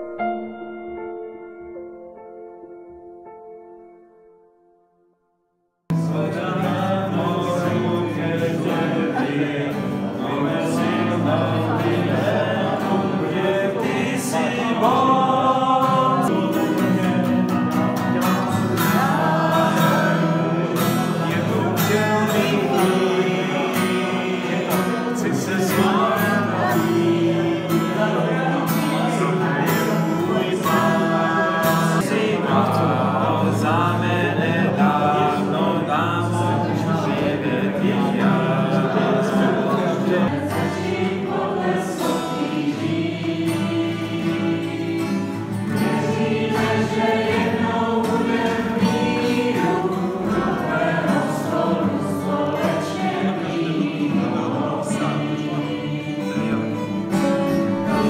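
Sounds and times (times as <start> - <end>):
group singing a worship song: 5.9 - 58.0
strummed acoustic guitar: 5.9 - 58.0.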